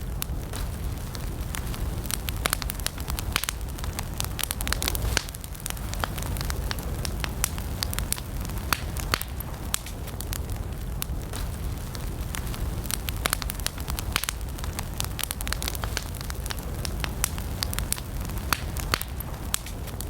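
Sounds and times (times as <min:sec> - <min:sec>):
campfire flames rumbling: 0:00.0 - 0:20.0
wood crackling and popping: 0:00.0 - 0:20.0.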